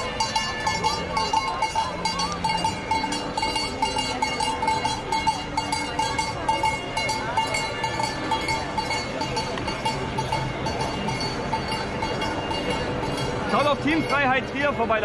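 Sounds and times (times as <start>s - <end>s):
cowbells clanging: 0.0s - 15.0s.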